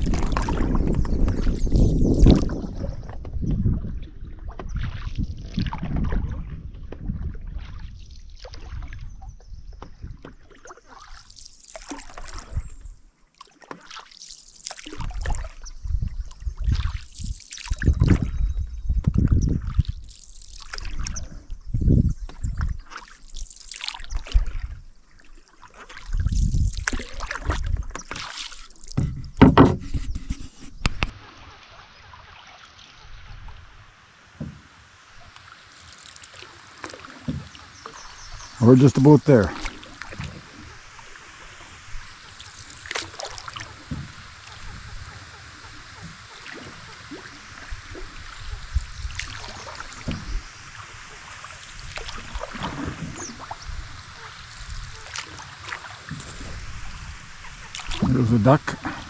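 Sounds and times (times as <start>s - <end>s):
paddle dipping through water: 0.0s - 59.0s.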